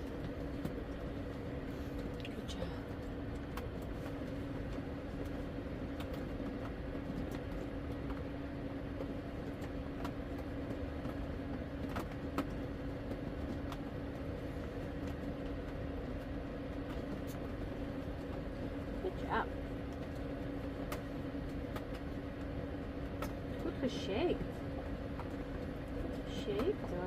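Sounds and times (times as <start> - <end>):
small blower fan humming: 0.0 - 27.0.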